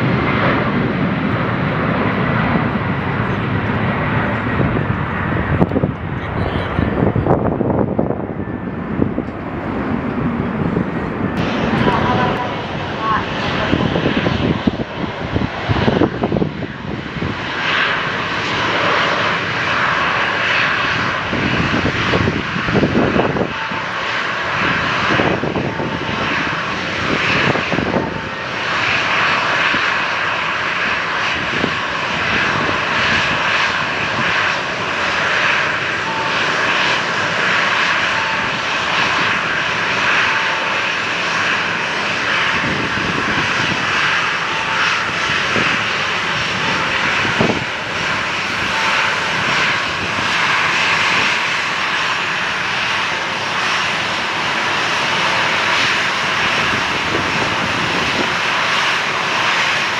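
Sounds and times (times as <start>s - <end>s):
jet engines rushing and whining: 0.0s - 59.9s.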